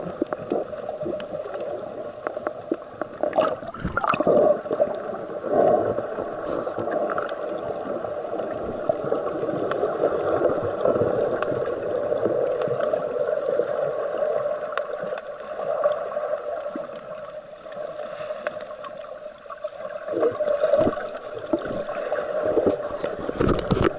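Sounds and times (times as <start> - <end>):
faint underwater clicks: 0.0 - 23.9
underwater water rush: 0.0 - 23.9.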